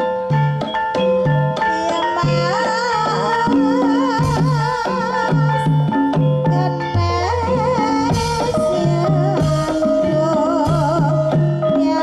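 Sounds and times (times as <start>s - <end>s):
metallophone notes ringing: 0.0s - 12.0s.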